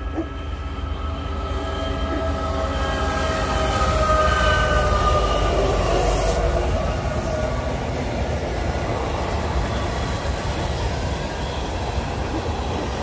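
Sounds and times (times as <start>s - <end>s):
diesel locomotives passing: 0.0s - 13.0s
train wheels rumbling on rail: 0.0s - 13.0s.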